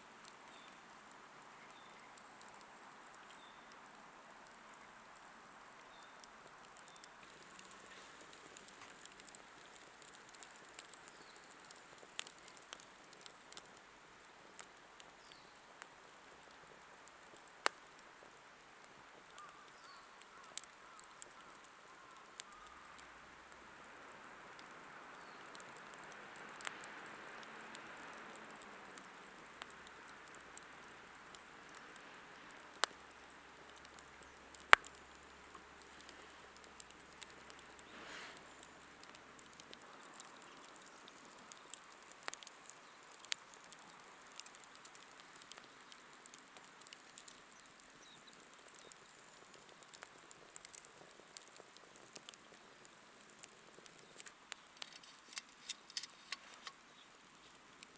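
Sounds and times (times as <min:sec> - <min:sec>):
campfire crackling: 0:00.0 - 0:57.9
soft fire hiss: 0:00.0 - 0:57.9.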